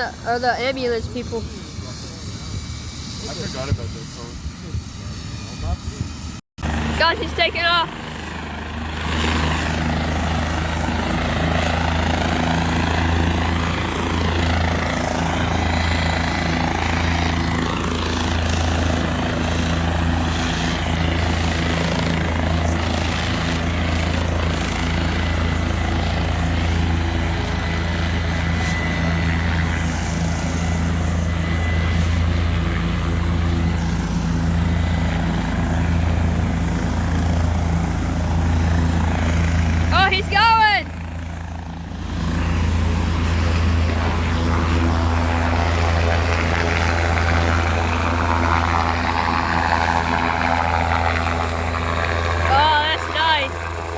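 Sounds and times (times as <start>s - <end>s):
helicopter rotor and engine: 0.0s - 53.9s.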